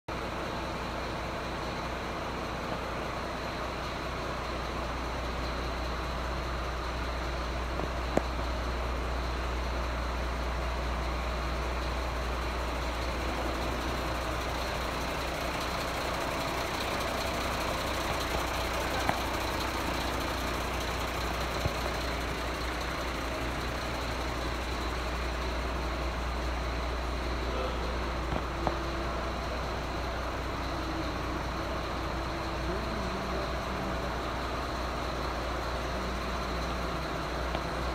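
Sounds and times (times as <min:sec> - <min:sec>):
diesel engine idling: 0:00.1 - 0:37.9.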